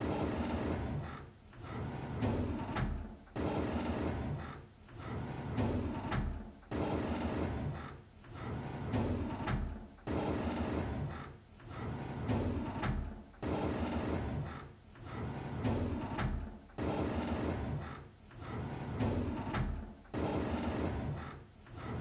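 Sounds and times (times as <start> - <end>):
drawer sliding on runners: 1.6 - 22.0.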